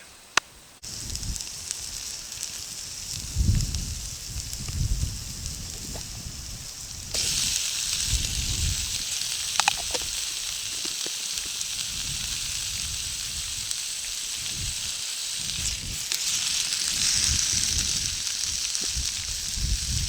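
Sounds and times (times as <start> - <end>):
wind on microphone: 0.8 - 10.3, 11.8 - 13.7, 14.3 - 20.0
food sizzling in a pan: 0.8 - 20.0.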